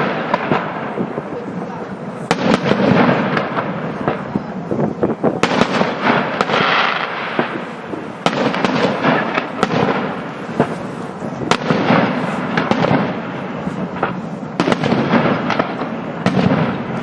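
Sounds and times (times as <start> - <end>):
fireworks crackling: 0.0 - 17.0
sharp firework bangs: 0.0 - 17.0.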